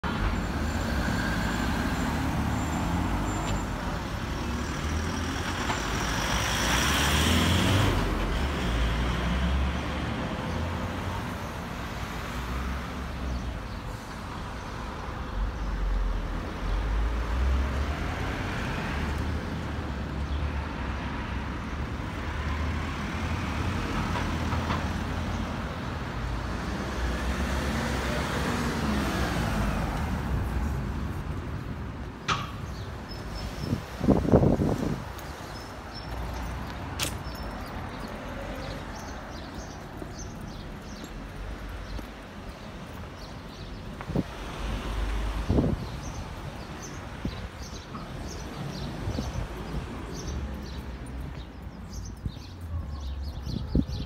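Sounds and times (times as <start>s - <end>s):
cars passing: 0.0s - 54.0s
steady traffic rumble: 0.0s - 54.0s.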